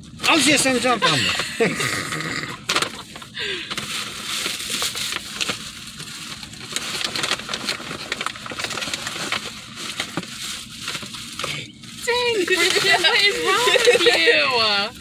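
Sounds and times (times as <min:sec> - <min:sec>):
tissue paper rustling: 0:02.7 - 0:15.0.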